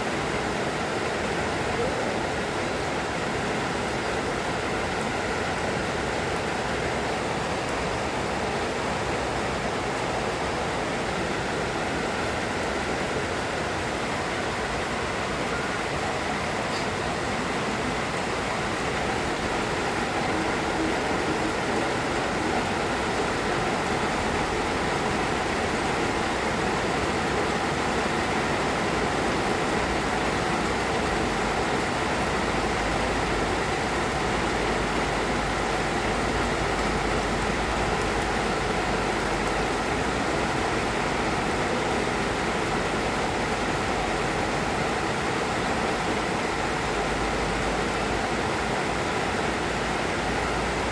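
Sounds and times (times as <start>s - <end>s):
rain falling steadily: 0.0s - 50.9s.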